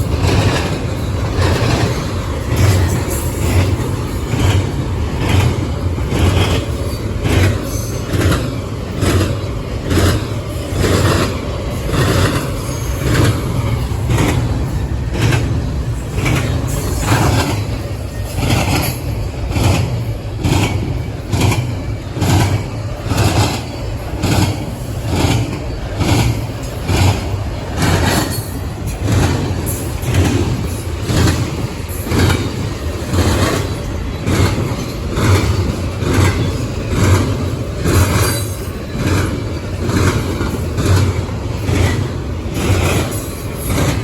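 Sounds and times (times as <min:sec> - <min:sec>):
train rumbling past: 0:00.0 - 0:44.0
wheels clacking over rail joints: 0:00.0 - 0:44.0.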